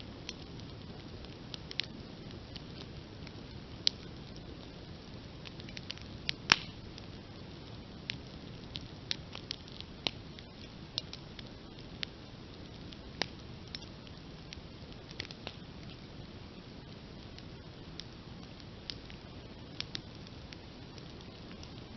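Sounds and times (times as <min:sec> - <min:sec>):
campfire crackling and popping: 0:00.0 - 0:21.9
low hiss: 0:00.0 - 0:21.9.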